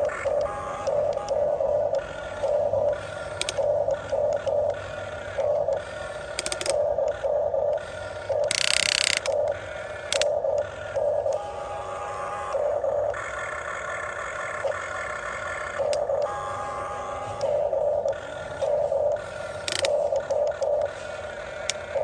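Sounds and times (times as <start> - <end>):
electric motors whirring: 0.0 - 22.0.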